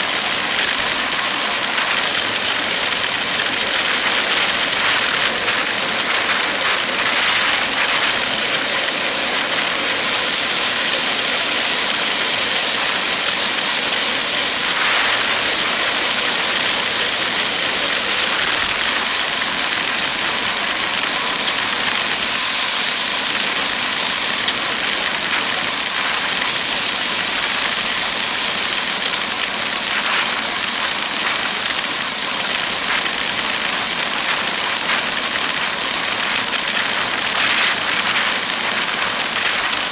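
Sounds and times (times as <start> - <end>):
tyre on road noise: 0.0 - 39.9.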